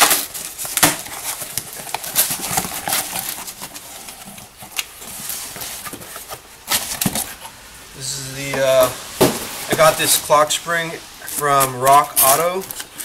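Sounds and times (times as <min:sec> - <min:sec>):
cardboard rustling and scraping: 0:00.0 - 0:07.6, 0:08.3 - 0:10.5, 0:11.2 - 0:13.0.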